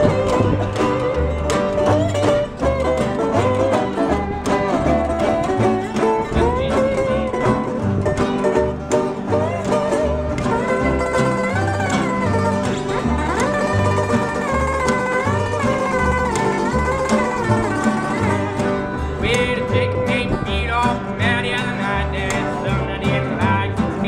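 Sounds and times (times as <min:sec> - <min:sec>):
fiddle: 0:00.0 - 0:24.0
slide resonator guitar: 0:00.0 - 0:24.0
strummed acoustic guitars: 0:00.0 - 0:24.0
upright bass: 0:00.0 - 0:24.0.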